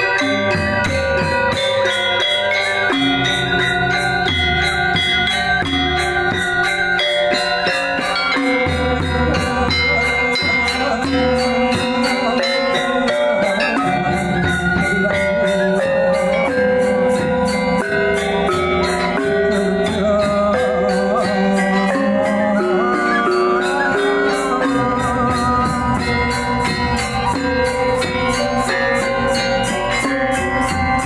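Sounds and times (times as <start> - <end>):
gamelan ensemble playing: 0.0 - 31.0.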